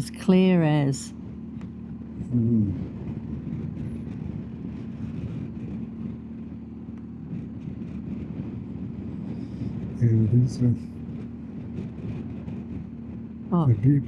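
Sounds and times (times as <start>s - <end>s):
motorcycle engine drone: 0.0s - 14.0s
wind and road rush: 0.0s - 14.0s.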